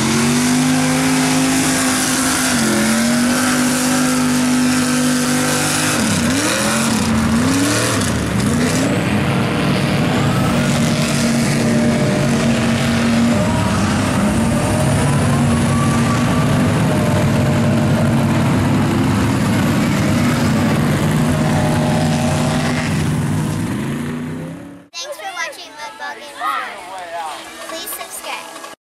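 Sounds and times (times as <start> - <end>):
truck engine revving: 0.0 - 24.9.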